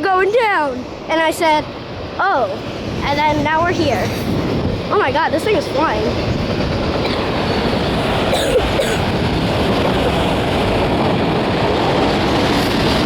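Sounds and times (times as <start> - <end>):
train passing at high speed: 0.0 - 13.0.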